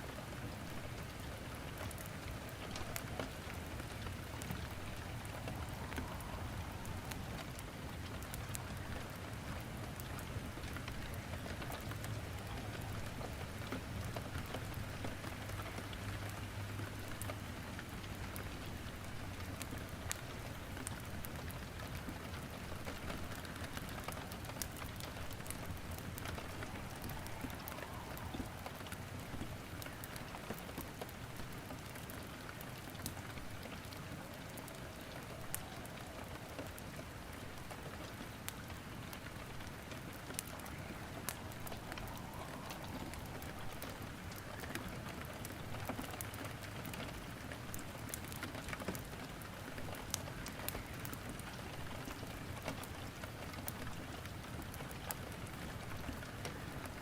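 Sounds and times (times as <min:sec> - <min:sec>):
rain falling: 0:00.0 - 0:57.0
wood logs crackling in fireplace: 0:00.0 - 0:57.0.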